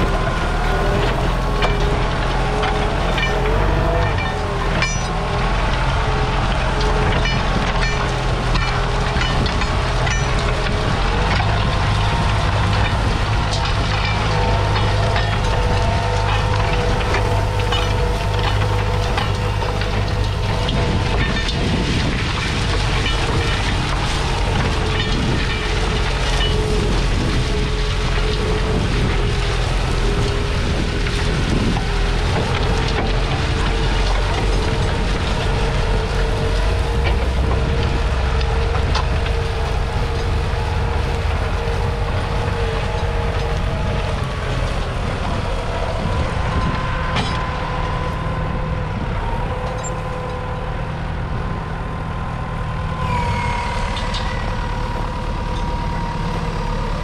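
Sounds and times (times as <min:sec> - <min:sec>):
constant whine: 0:00.0 - 0:57.0
crackling noise: 0:00.0 - 0:57.0
diesel tractor engine rumble: 0:00.0 - 0:57.0.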